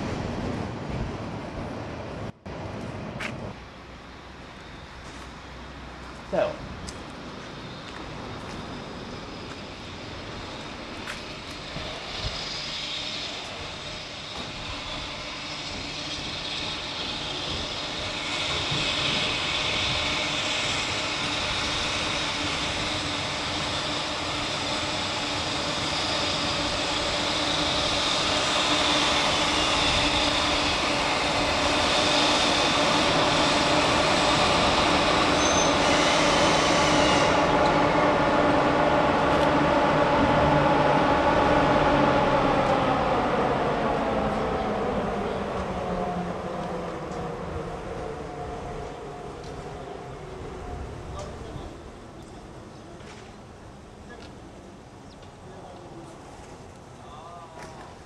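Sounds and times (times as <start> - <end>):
electric locomotive hum: 0.0 - 58.0.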